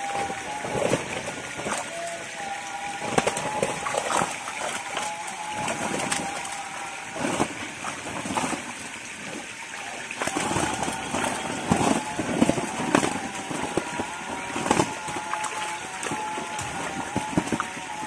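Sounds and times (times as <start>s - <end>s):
fish thrashing and splashing: 0.0s - 18.0s
splashes: 0.0s - 18.0s.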